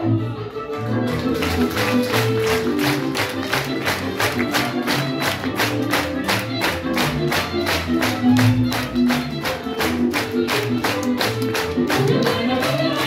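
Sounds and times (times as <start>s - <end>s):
folk band playing: 0.0s - 13.0s.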